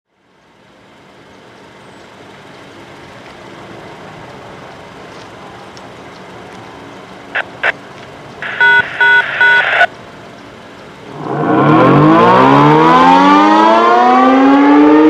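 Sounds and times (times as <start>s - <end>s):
road traffic rumble: 0.1s - 15.0s.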